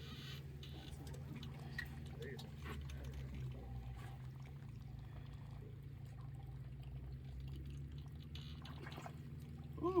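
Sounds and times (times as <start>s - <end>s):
water trickling and splashing: 0.1s - 10.0s.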